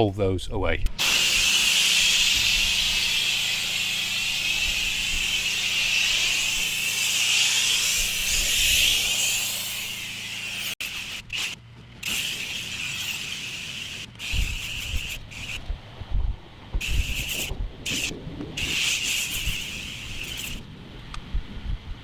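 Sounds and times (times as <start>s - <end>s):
foam spray hissing: 1.0s - 15.6s, 16.8s - 20.6s.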